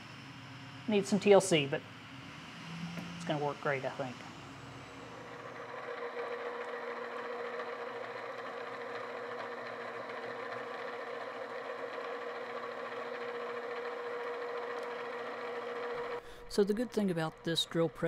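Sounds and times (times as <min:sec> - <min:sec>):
drill press humming: 0:00.0 - 0:18.0.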